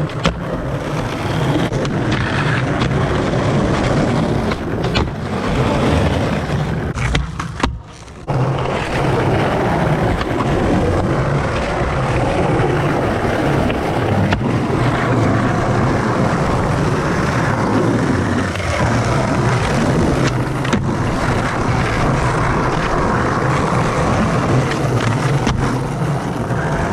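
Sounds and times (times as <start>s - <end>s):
skateboard clacks: 0.0s - 26.9s
skateboard wheels rolling on pavement: 0.0s - 26.9s.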